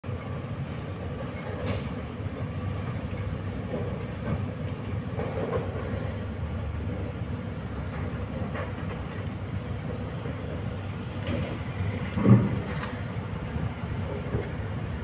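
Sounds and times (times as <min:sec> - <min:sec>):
distant train rumbling: 0:00.0 - 0:15.0
wheels clanking on track: 0:00.0 - 0:15.0.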